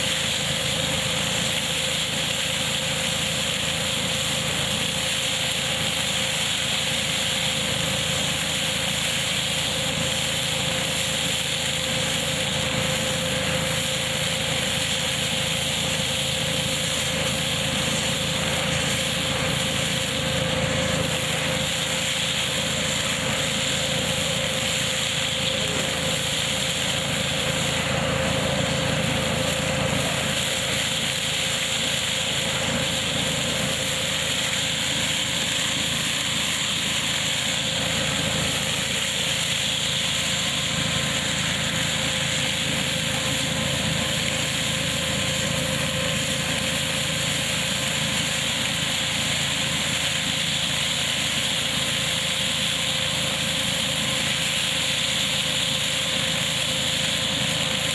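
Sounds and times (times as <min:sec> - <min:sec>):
constant machine hum: 0:00.0 - 0:57.9
nut pickup machine running: 0:00.0 - 0:57.9.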